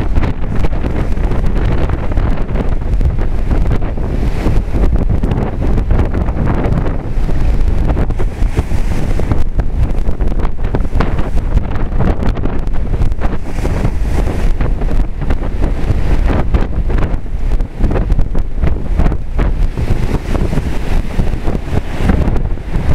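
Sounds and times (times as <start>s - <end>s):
storm wind buffeting microphone: 0.0s - 22.9s
surf from waves: 0.0s - 22.9s.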